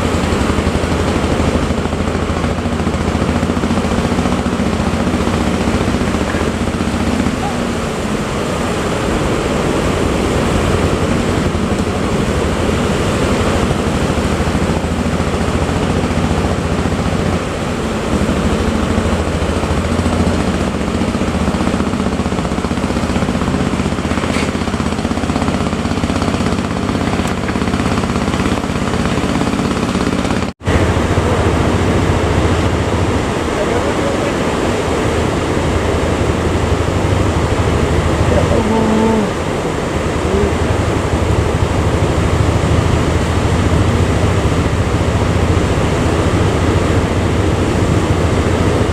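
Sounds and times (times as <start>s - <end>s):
boat engine running: 0.0s - 48.9s
wind and sea rushing: 0.0s - 48.9s.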